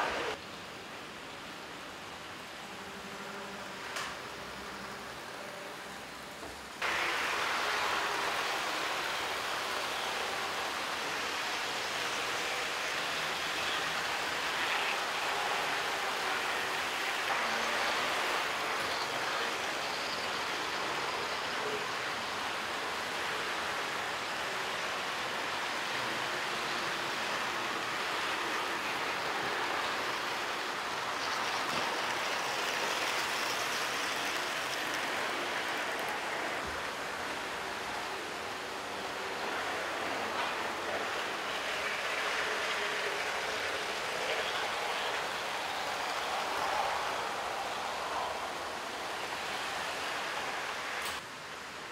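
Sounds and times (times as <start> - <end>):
model train wheels rolling on rail: 0.0 - 0.4, 1.0 - 51.9.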